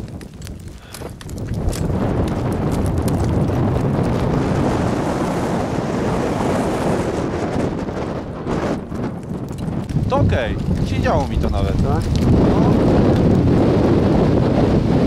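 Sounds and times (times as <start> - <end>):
wind gusting over microphone: 0.0 - 15.0.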